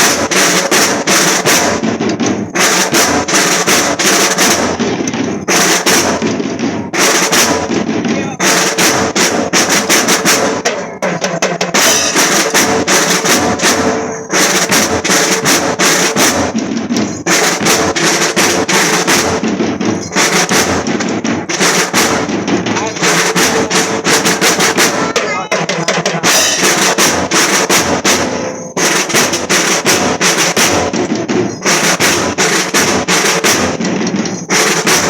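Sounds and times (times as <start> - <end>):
marching drum band: 0.0 - 35.0.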